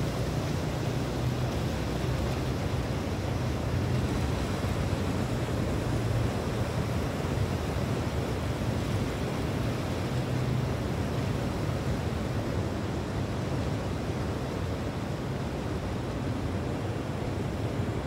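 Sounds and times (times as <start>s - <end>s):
surf: 0.0s - 18.0s.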